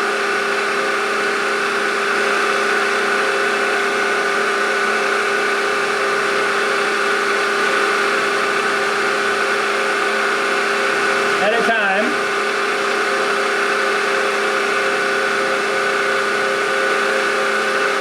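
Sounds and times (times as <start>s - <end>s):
machine spindle motor whining: 0.0s - 18.0s.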